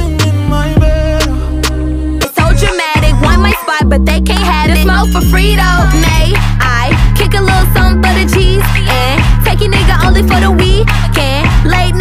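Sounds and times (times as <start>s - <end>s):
deep sliding bass notes: 0.0s - 12.0s
person singing: 0.0s - 12.0s.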